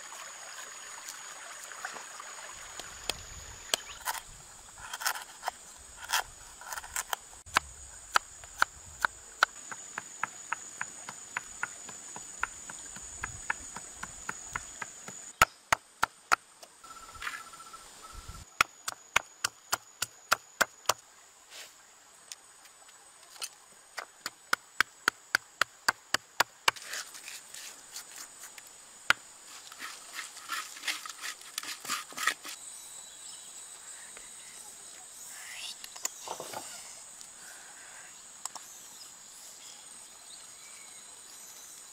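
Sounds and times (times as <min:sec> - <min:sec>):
insects chirring: 0:00.2 - 0:41.9.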